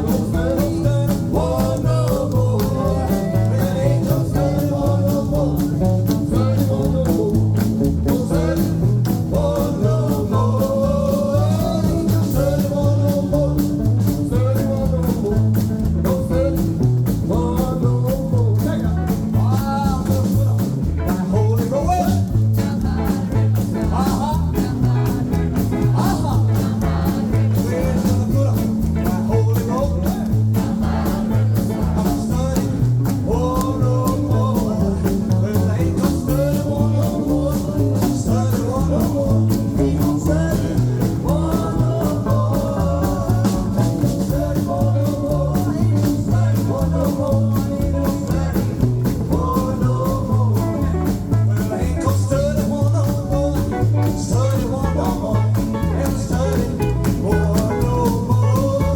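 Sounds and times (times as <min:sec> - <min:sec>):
rock band playing: 0:00.0 - 0:58.9.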